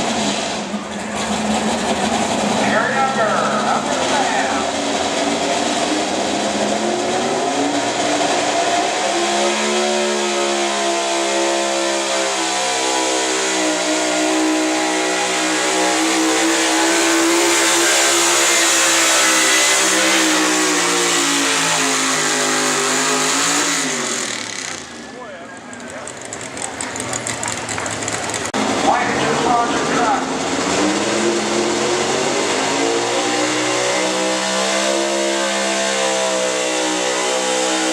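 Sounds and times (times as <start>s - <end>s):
truck engine at full throttle: 0.0s - 37.9s.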